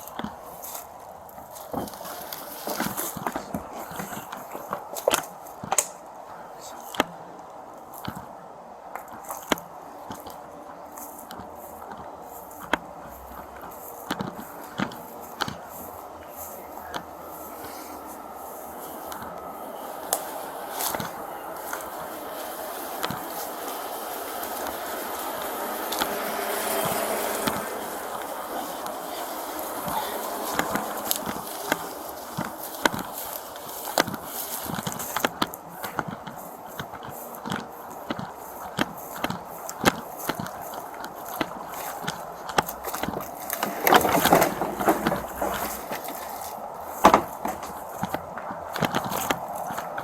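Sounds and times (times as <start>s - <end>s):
steady microphone hiss: 0.0s - 50.0s.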